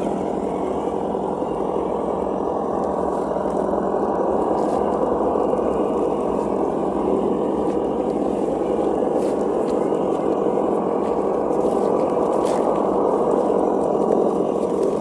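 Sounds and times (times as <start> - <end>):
simulated engine sound from speaker: 0.0 - 15.0.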